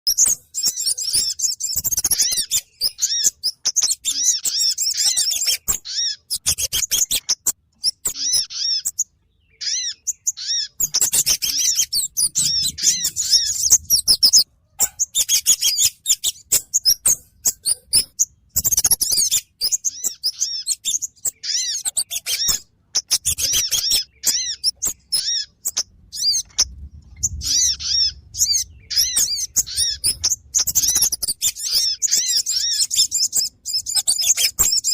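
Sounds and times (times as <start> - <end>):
rapid high-pitched bird chirping: 0.0 - 34.9.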